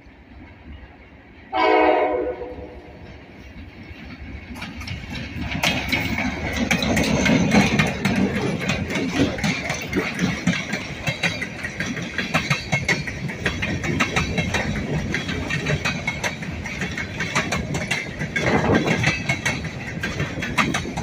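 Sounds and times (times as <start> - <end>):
freight train rumble: 0.0 - 21.0
train wheels clacking over rail joints: 3.0 - 21.0.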